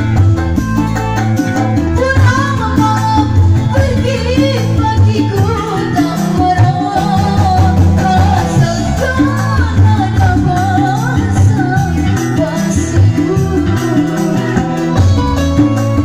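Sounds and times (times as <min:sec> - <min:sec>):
hand drums: 0:00.0 - 0:16.0
keyboard: 0:00.0 - 0:16.0
woman singing into a microphone: 0:01.7 - 0:16.0.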